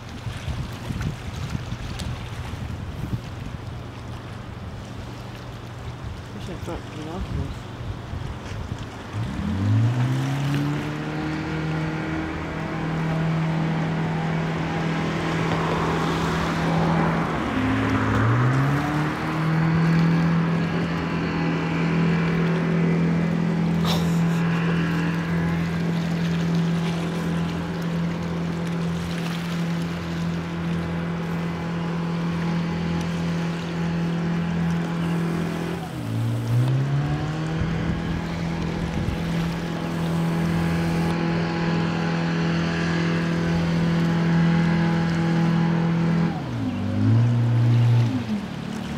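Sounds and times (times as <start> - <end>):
boat engine at high revs: 0.0 - 48.9.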